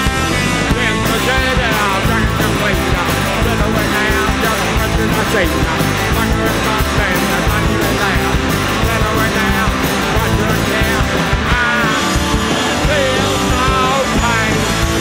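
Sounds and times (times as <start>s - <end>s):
bass guitar: 0.0s - 15.0s
drums: 0.0s - 15.0s
electric guitar: 0.0s - 15.0s
man singing: 0.7s - 15.0s.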